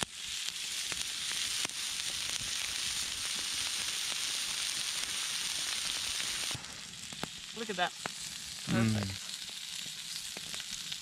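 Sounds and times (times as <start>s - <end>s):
meat sizzling with pops: 0.0s - 11.0s.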